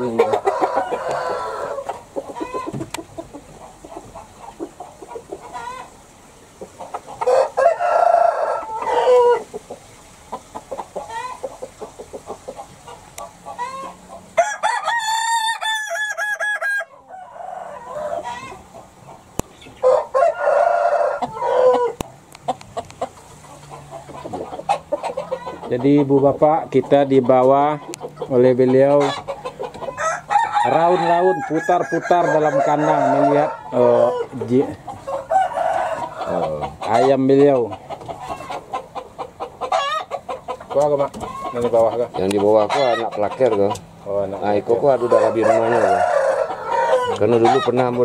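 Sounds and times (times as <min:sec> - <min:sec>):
roosters crowing: 0:00.0 - 0:06.0, 0:06.8 - 0:09.8, 0:10.5 - 0:48.0
chickens clucking: 0:00.0 - 0:48.0.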